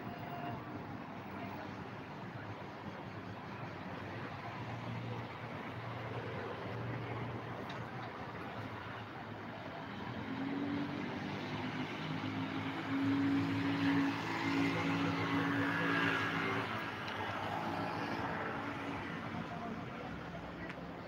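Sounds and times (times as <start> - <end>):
cars passing: 3.2 - 21.0.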